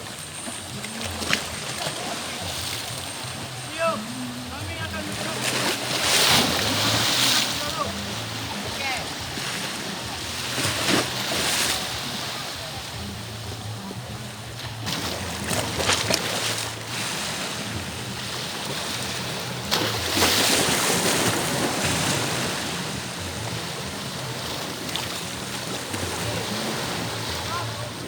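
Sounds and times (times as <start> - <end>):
sea surf washing onto beach: 0.0 - 28.0.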